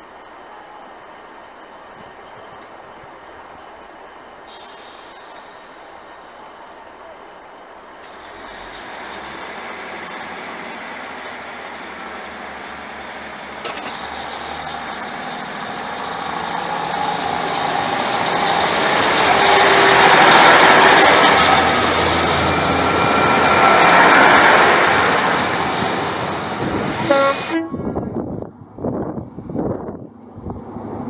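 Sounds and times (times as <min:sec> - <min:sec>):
diesel train pulling away: 0:00.1 - 0:31.0.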